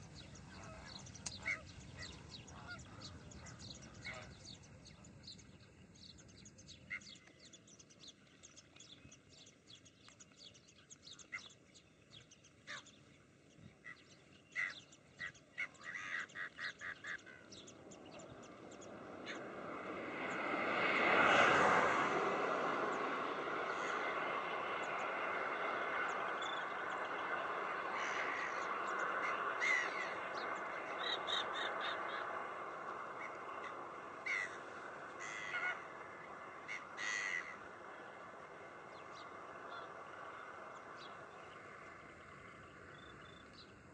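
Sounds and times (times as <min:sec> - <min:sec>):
gulls calling: 0:00.0 - 0:05.5, 0:13.7 - 0:43.7.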